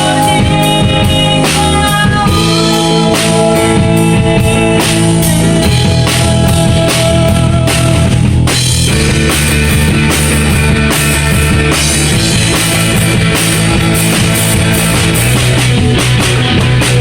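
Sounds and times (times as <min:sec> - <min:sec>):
drum kit beat: 0:00.0 - 0:17.0
live rock band playing: 0:00.0 - 0:17.0.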